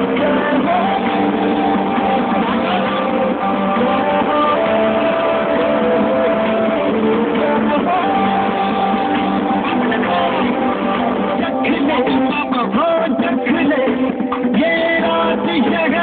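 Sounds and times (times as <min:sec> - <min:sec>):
guitar music over loudspeakers: 0:00.0 - 0:16.0.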